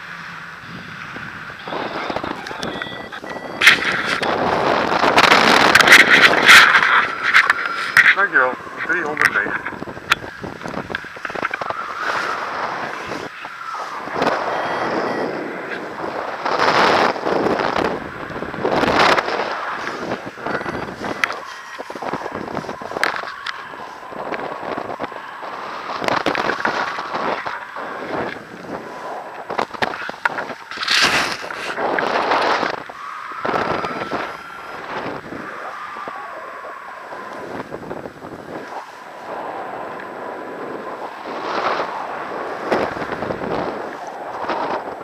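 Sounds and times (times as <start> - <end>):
wind rushing over microphone: 0.0 - 45.0
crackling clicks: 0.9 - 45.0.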